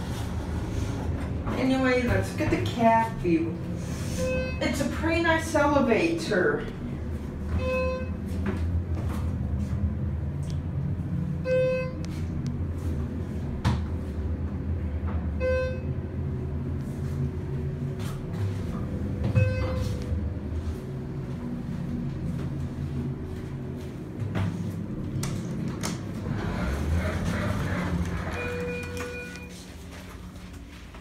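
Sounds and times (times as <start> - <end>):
elevator humming: 0.0 - 31.0.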